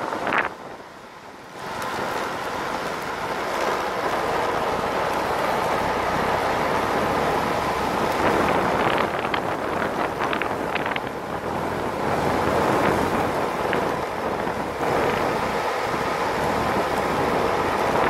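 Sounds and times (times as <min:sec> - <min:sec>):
skateboard wheels rolling on asphalt: 0:00.0 - 0:18.0
wind rushing over microphone: 0:00.0 - 0:18.0.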